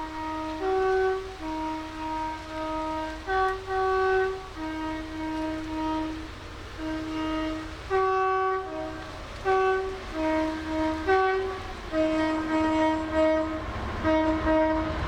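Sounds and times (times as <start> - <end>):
train two-tone horn blasts: 0.0 - 15.0.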